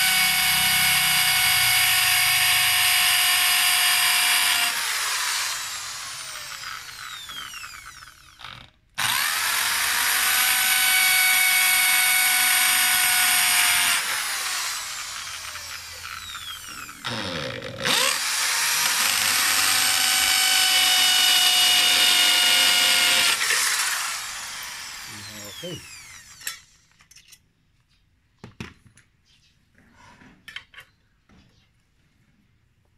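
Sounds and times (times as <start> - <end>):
electric drill whining: 0.0 - 27.0.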